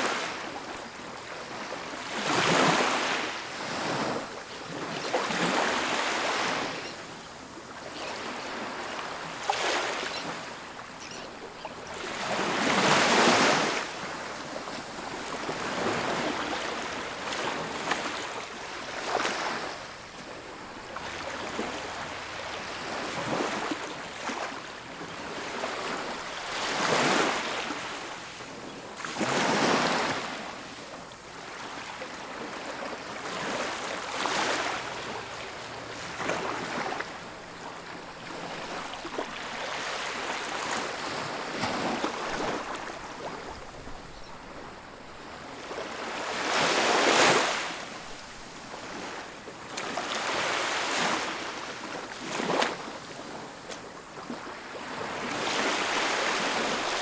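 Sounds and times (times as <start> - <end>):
ocean waves breaking on beach: 0.0 - 57.0
wind: 0.0 - 57.0.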